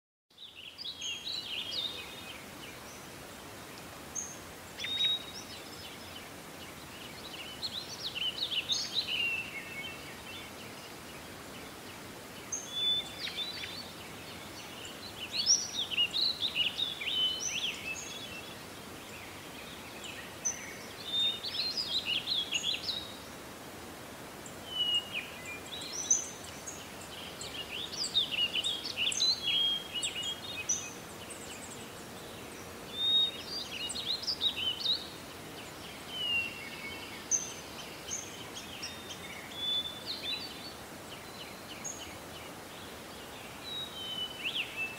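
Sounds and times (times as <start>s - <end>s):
songbirds singing: 0.3s - 44.9s
steady background hiss: 0.3s - 44.9s.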